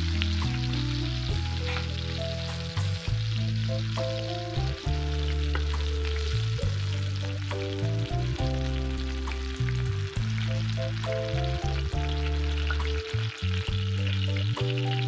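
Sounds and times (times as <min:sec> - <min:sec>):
background music with bass notes: 0:00.0 - 0:15.0
frying in hot oil sizzling: 0:00.0 - 0:15.0.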